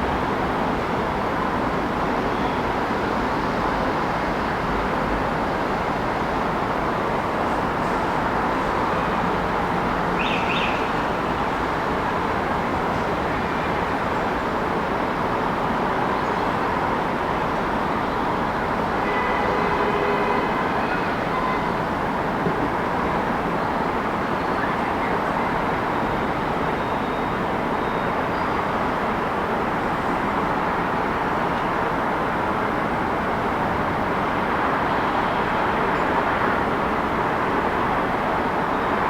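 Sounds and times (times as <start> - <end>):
city traffic: 0.0 - 39.0.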